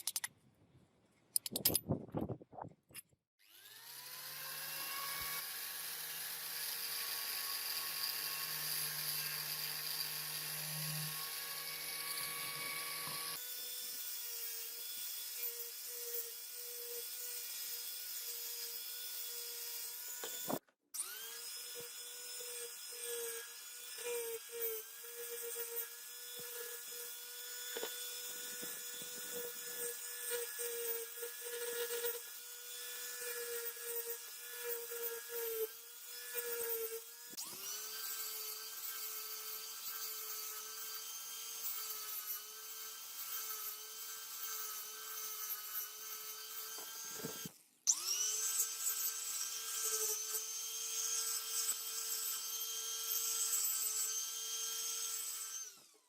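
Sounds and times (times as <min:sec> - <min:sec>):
rotary tool whining: 0:03.4 - 0:56.0.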